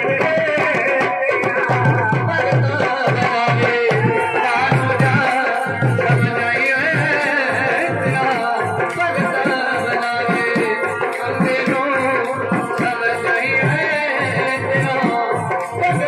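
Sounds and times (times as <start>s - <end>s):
hand drum beats: 0.0s - 16.0s.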